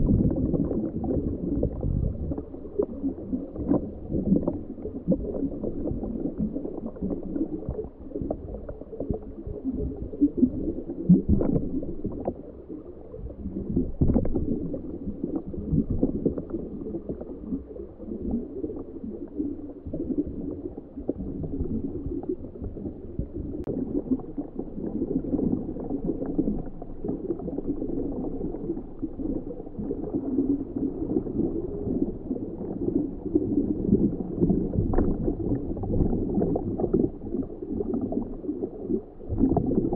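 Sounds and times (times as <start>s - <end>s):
muffled underwater gurgling: 0.0s - 39.9s
underwater crackles and clicks: 0.0s - 39.9s.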